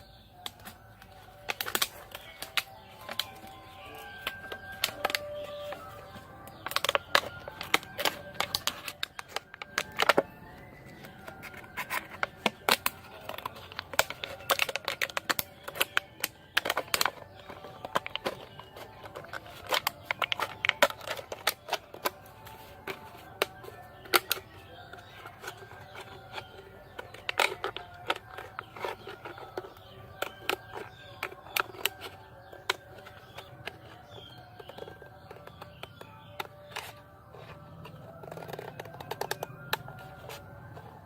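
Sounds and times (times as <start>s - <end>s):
background music with held tones: 0.0s - 41.0s.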